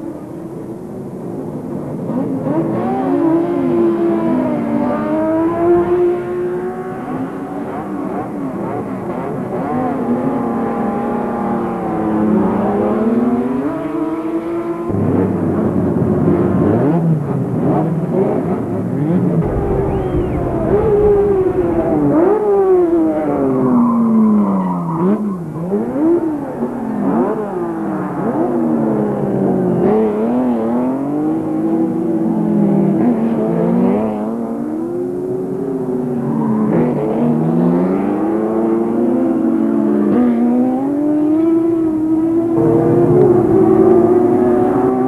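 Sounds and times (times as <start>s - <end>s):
race car engines revving: 0.2s - 45.0s.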